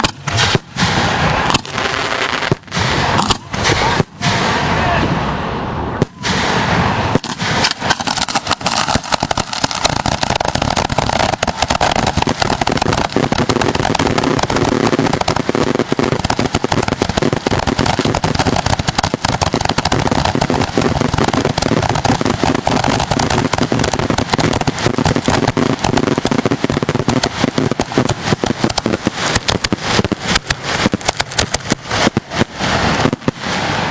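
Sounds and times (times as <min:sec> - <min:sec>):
fireworks bursts and crackling: 0:00.0 - 0:33.9.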